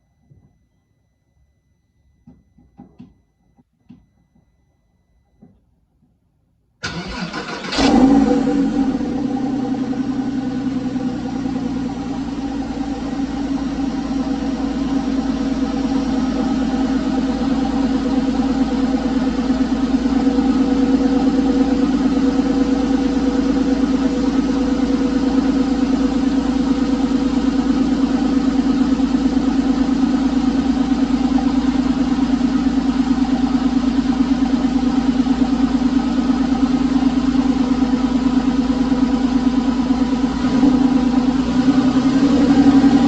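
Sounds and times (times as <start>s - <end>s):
car engine idling: 6.8s - 43.0s.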